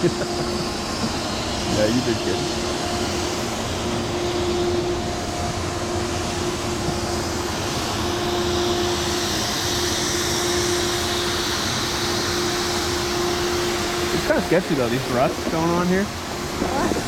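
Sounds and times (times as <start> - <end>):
snowmaking fan gun running: 0.0 - 17.0.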